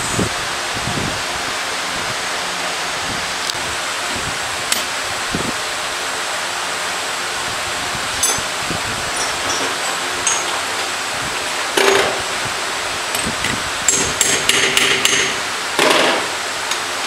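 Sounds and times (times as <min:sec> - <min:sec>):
rushing workshop background noise: 0:00.0 - 0:17.0.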